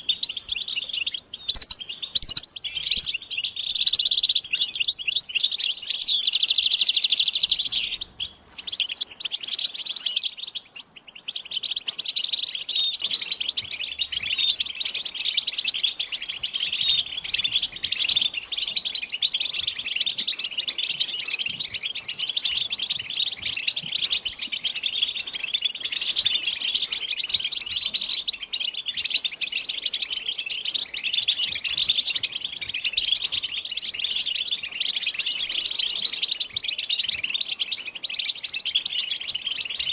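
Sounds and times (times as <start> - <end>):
goldfinches chattering and singing: 0.0 - 39.9.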